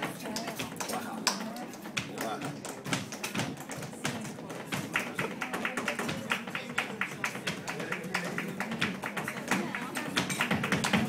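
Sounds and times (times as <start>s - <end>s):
flamenco footwork taps: 0.0s - 11.0s.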